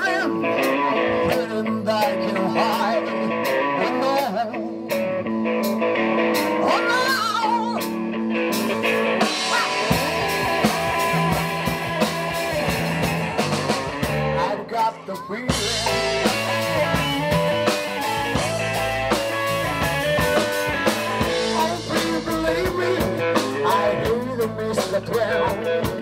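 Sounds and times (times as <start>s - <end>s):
bass guitar: 0.0s - 26.0s
drum kit: 0.0s - 26.0s
electric guitars: 0.0s - 26.0s.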